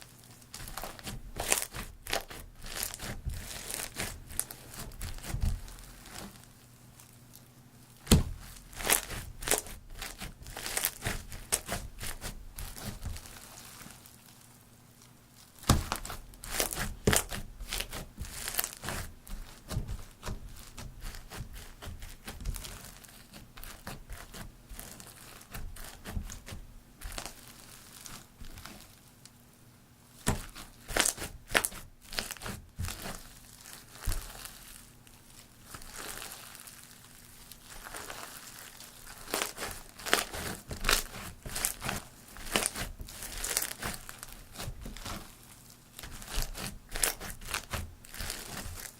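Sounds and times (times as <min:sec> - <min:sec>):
slime crunching and crackling: 0:00.0 - 0:29.2, 0:30.2 - 0:48.9.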